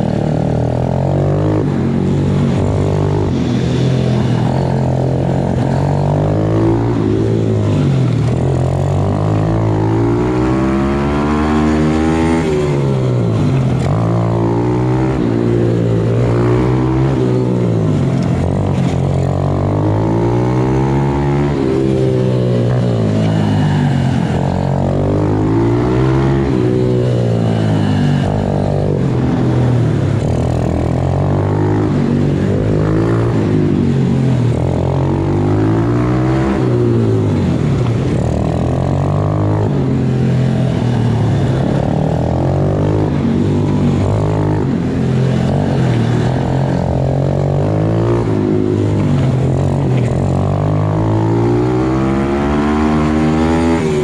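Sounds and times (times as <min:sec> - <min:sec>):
small motorcycle engine revving: 0:00.0 - 0:54.0.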